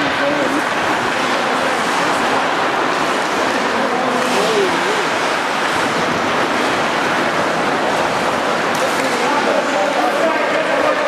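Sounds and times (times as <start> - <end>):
hiss of ice hockey play: 0.0 - 11.0.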